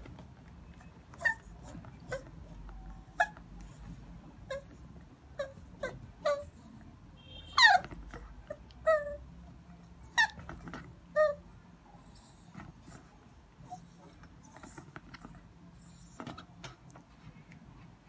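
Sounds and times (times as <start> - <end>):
puppy whimpering and whining: 0.7 - 9.3, 9.9 - 16.5.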